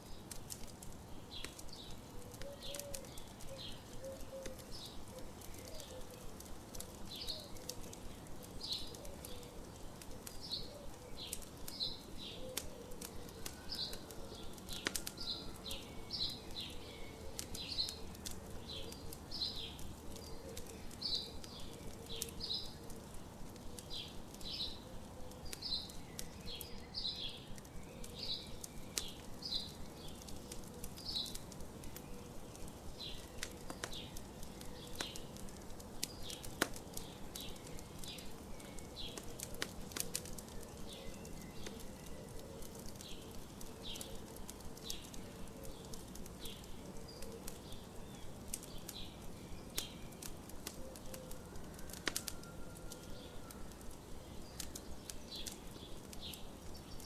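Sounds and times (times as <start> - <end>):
campfire crackling and popping: 0.0 - 57.0
songbird chirping: 0.0 - 57.0.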